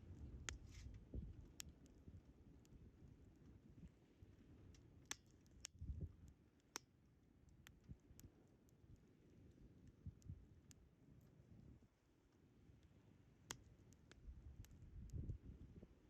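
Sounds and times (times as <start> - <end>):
wood fire crackling: 0.0 - 10.9, 11.8 - 15.8.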